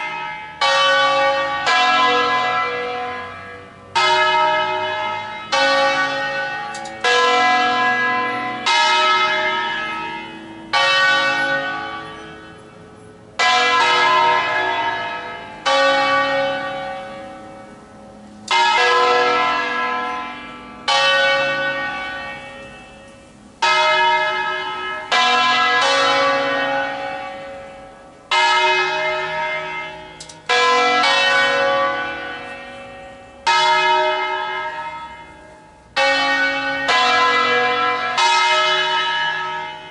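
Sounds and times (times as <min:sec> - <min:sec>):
large church bells tolling: 0:00.0 - 0:39.9.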